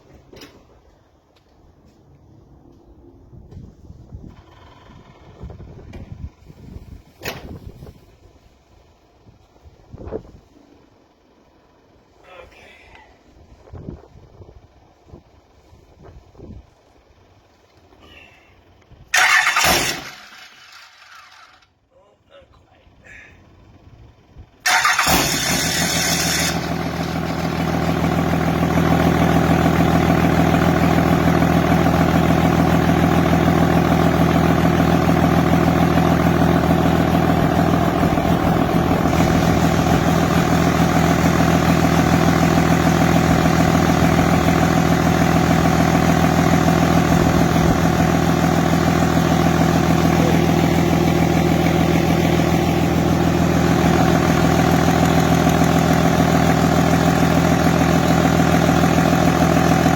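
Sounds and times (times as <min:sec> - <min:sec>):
diesel engine starting and idling: 0:00.0 - 0:59.9.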